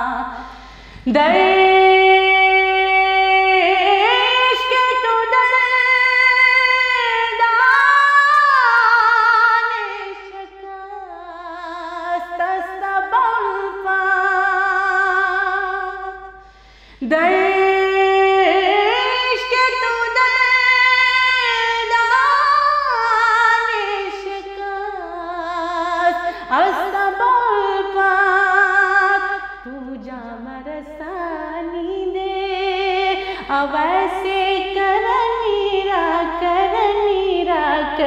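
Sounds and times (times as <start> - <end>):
woman singing unaccompanied: 0.0 - 16.4, 17.0 - 38.0.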